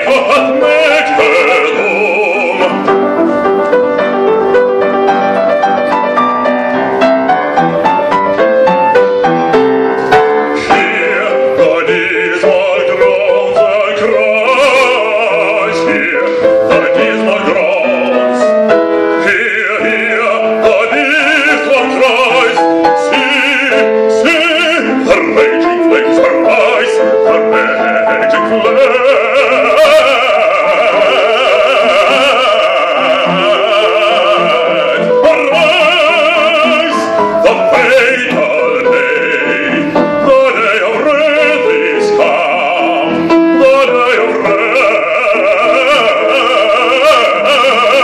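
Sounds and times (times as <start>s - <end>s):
man singing operatically: 0.0s - 4.1s, 10.1s - 48.0s
grand piano: 0.0s - 48.0s.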